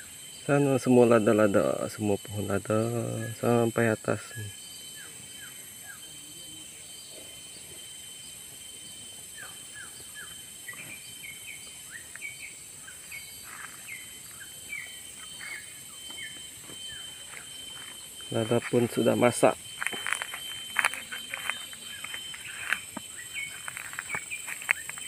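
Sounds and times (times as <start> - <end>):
birds chirping: 0.0 - 25.0
high insect drone: 0.0 - 25.0.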